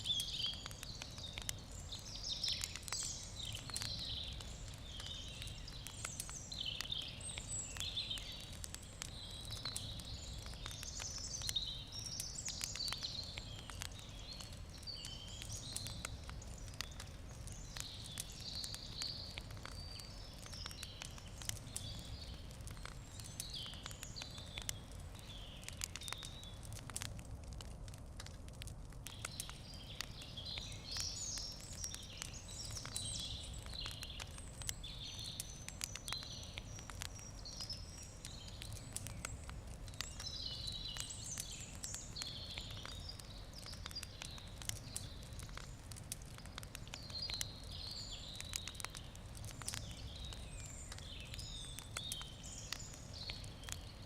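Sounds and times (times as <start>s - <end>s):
birds chirping: 0.0s - 26.8s, 29.0s - 54.0s
campfire crackling and popping: 0.0s - 54.0s.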